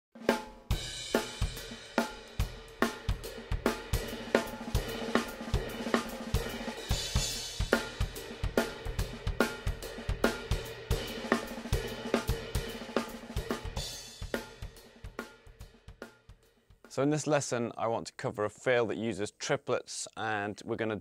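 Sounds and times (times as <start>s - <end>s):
drum kit groove: 0.1s - 17.6s.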